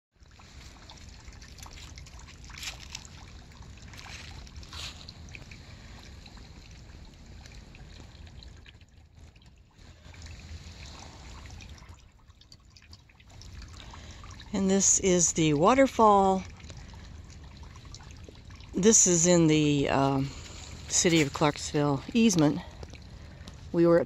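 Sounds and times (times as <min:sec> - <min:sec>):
water trickling into a pool: 0:00.1 - 0:24.0.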